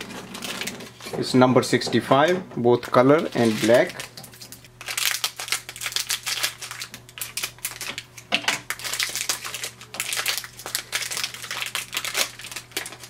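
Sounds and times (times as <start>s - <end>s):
foil pouch crinkling: 0.0s - 1.1s, 2.9s - 13.0s.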